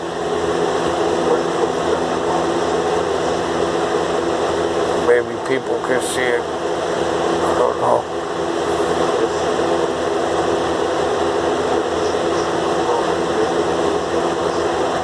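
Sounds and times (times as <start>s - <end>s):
low hum: 0.0s - 15.0s
mechanical drone: 0.0s - 15.0s.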